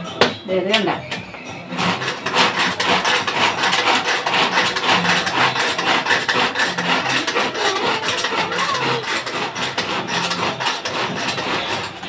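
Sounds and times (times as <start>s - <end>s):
food chopper rasping rattle: 1.7s - 12.0s.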